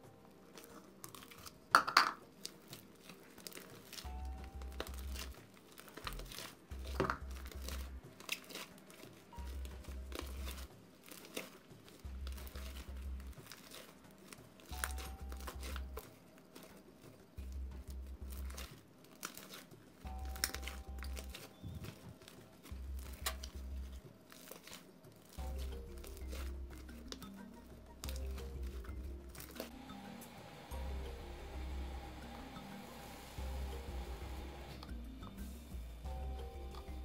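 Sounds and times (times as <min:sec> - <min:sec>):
slime clicking and crackling: 0:00.0 - 0:29.8
background music with deep bass: 0:00.0 - 0:37.0.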